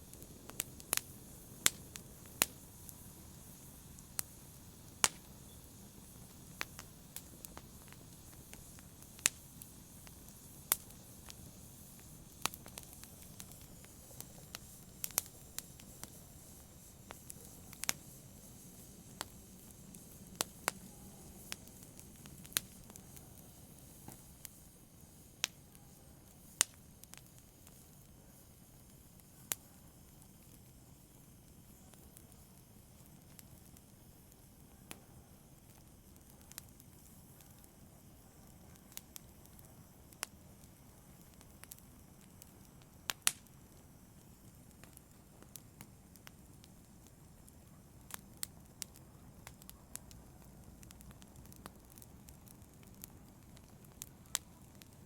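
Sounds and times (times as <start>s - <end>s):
faint steady hiss: 0.0s - 55.0s
fire crackling: 0.0s - 55.0s
fire popping: 0.0s - 55.0s.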